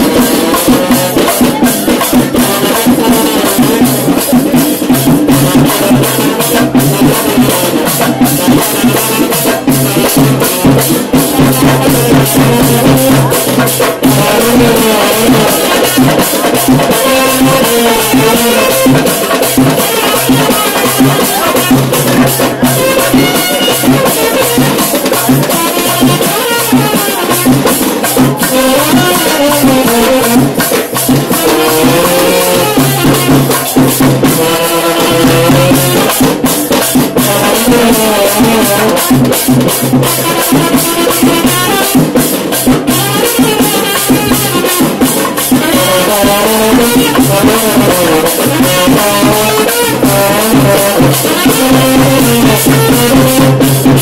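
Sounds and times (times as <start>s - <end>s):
loud dense drumming: 0.0s - 54.0s.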